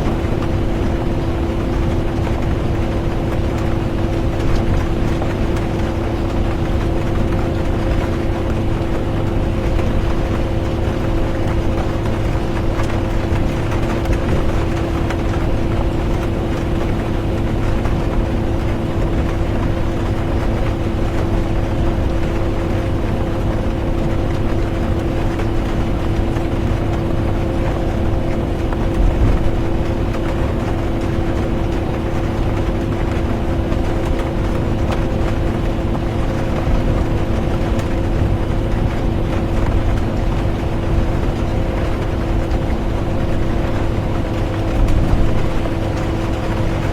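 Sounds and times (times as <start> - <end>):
bus engine and road rumble: 0.0 - 46.9
constant hum: 0.0 - 46.9.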